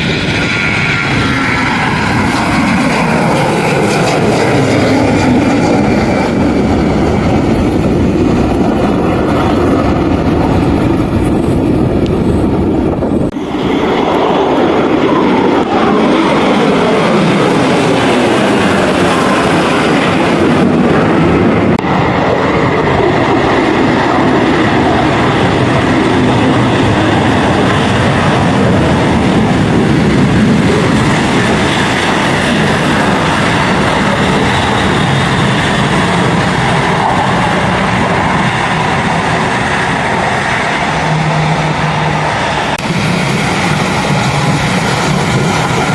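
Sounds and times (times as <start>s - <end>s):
aircraft engine passing close: 0.0s - 45.9s.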